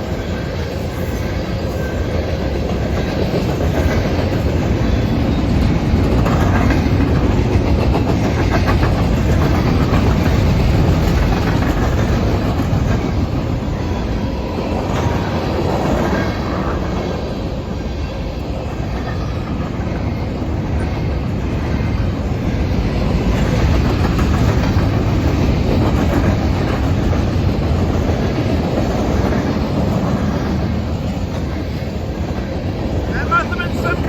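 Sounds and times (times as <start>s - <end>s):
steel wheels clattering on rails: 0.0s - 17.6s, 18.2s - 34.0s
freight train rumble: 0.0s - 34.0s.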